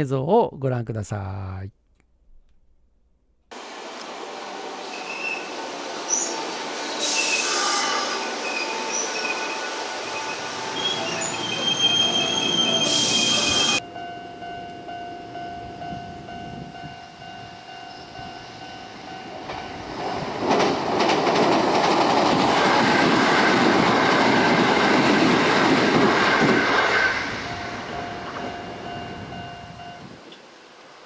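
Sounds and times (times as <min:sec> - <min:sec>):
train wheels on steel bridge: 0:03.6 - 0:13.8, 0:15.6 - 0:30.4.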